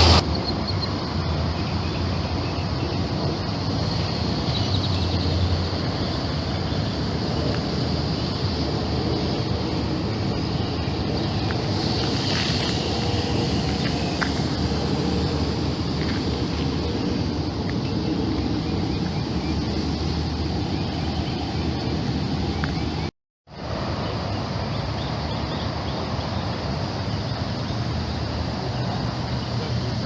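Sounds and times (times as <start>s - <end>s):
low rumble with hiss: 0.0s - 30.0s.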